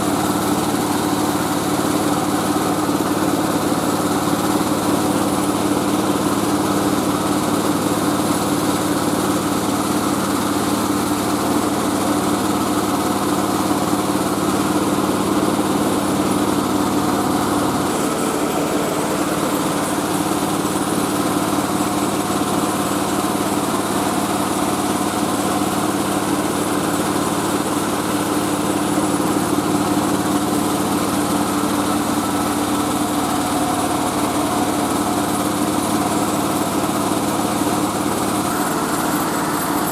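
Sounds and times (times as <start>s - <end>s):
rice-milling machine droning: 0.0s - 39.9s.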